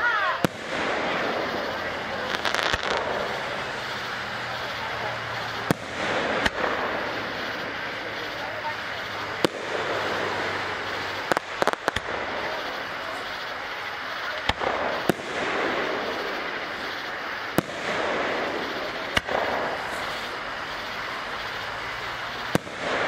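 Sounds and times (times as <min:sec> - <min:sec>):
firework shells bursting: 0:00.0 - 0:23.0.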